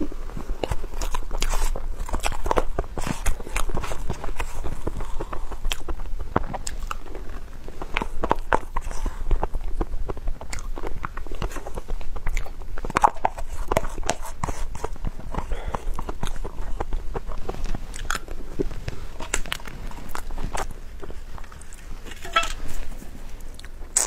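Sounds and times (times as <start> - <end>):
chewing and wet mouth clicks: 0.6 - 7.1, 7.7 - 21.8.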